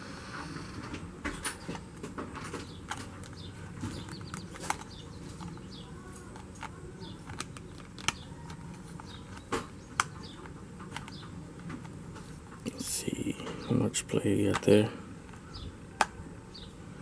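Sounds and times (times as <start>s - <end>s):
steady low hum: 0.0s - 17.0s
plastic parts clicking and knocking: 0.8s - 12.7s, 14.3s - 16.2s.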